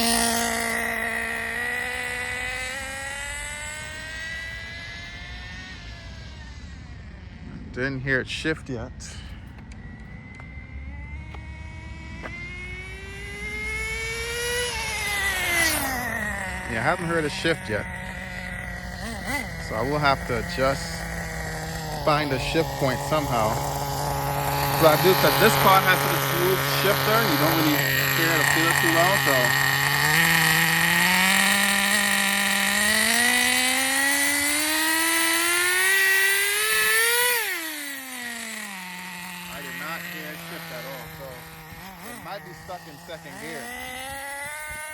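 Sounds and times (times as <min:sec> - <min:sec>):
nitro rc car engine revving: 0:00.0 - 0:44.9.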